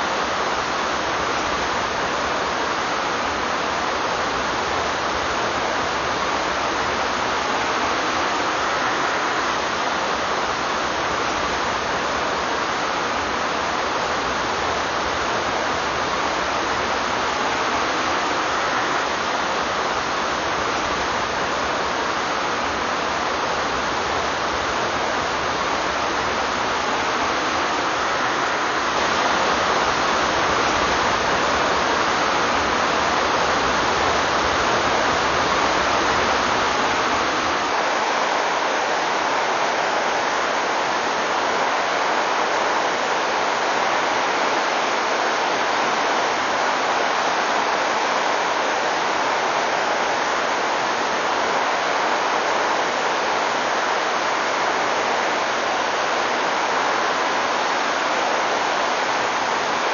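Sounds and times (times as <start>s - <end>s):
water rushing over rapids: 0.0s - 59.9s.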